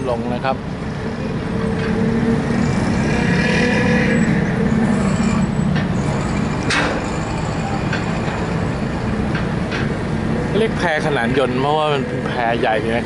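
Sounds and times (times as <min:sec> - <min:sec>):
idling motors rumbling: 0:00.0 - 0:13.0
motorcycle engines revving: 0:00.5 - 0:13.0.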